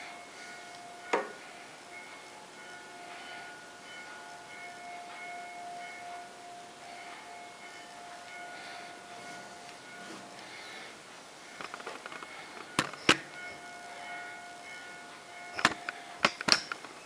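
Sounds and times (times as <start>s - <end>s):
faint metallic ringing: 0.0s - 17.0s.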